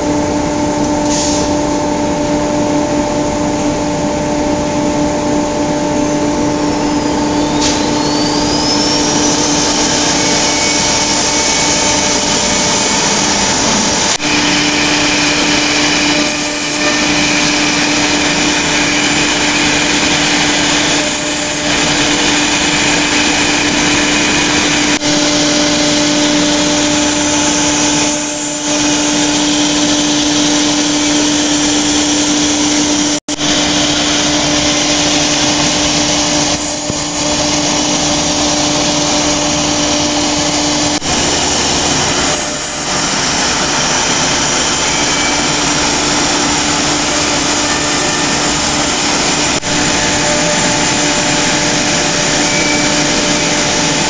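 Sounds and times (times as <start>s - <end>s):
router spindle steady tone: 1.8s - 54.0s
dust extraction rushing: 6.6s - 54.0s.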